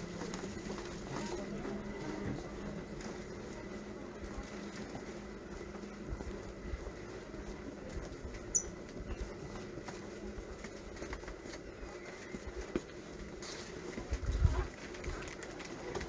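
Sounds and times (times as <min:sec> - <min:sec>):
footsteps: 0:00.0 - 0:16.0.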